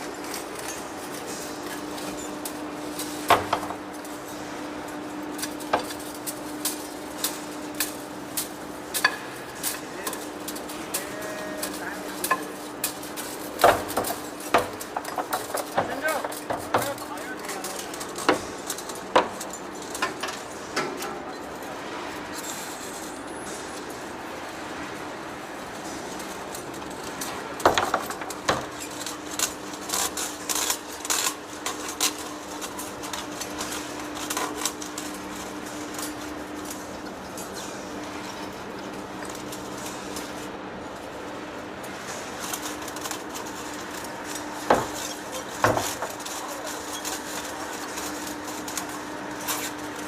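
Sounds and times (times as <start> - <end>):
heavy workshop machinery running: 0.0 - 50.0.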